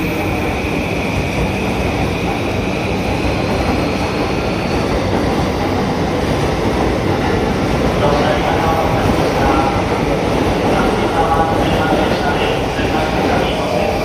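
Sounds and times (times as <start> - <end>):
faint train whine: 0.0 - 14.0
train wheels rumbling on rails: 0.0 - 14.0.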